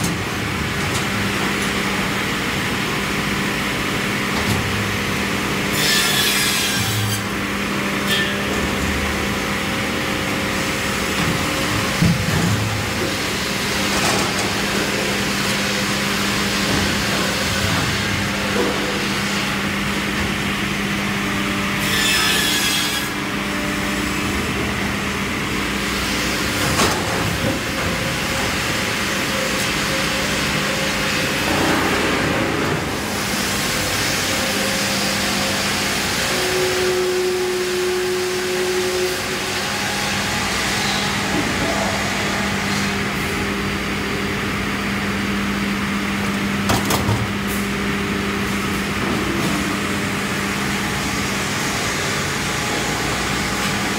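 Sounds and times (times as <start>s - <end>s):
saw and conveyor noise: 0.0s - 53.9s.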